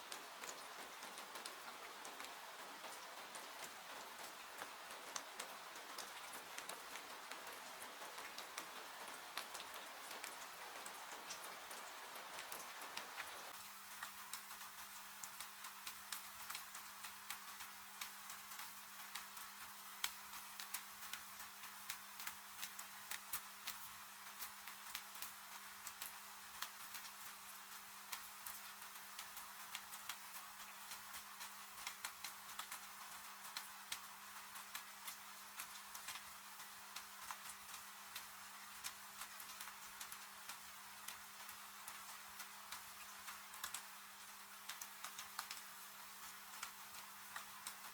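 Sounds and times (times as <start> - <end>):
rain hiss: 0.0 - 47.9.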